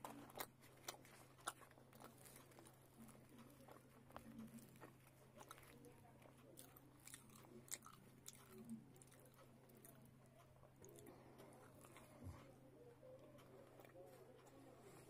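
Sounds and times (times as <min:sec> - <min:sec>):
fingers tearing bread: 0:00.0 - 0:12.2
chewing: 0:00.0 - 0:15.0.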